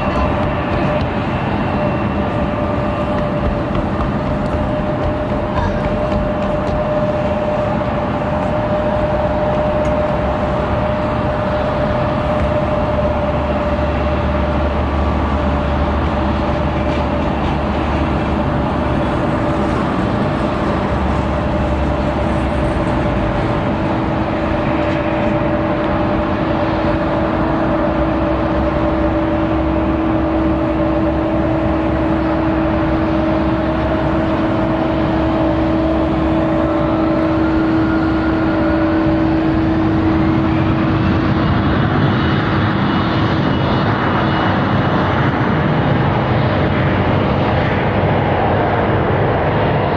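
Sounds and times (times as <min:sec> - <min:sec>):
jet engines whining and roaring: 0:00.0 - 0:49.9.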